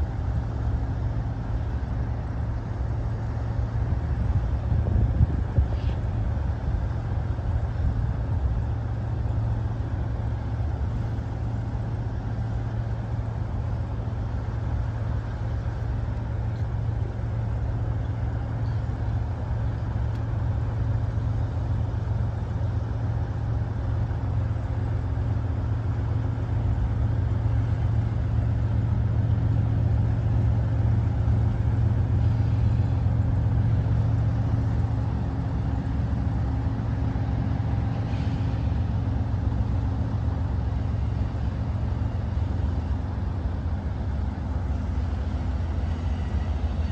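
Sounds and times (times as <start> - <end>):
distant diesel locomotive drone: 0.0 - 46.9.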